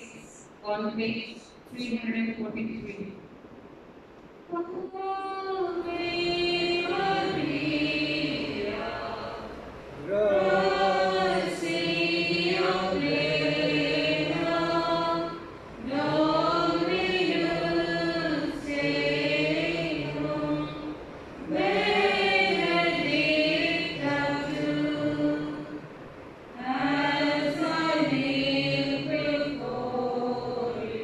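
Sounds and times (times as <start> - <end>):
group singing a hymn: 4.9 - 31.0.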